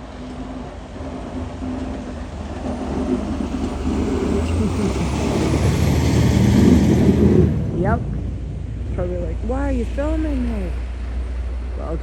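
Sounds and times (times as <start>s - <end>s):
snowplow truck engine rumble: 0.0s - 12.0s.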